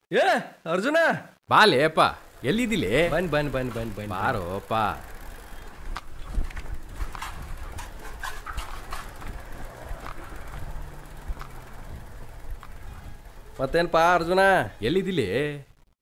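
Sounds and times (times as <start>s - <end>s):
bicycle rattling: 1.8s - 15.8s.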